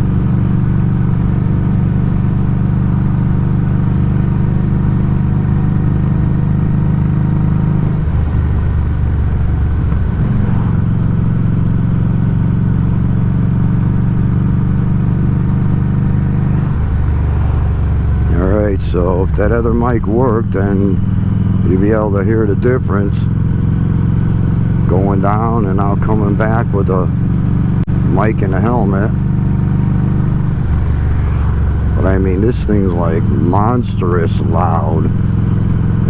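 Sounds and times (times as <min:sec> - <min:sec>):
motorcycle exhaust note: 0:00.0 - 0:36.0.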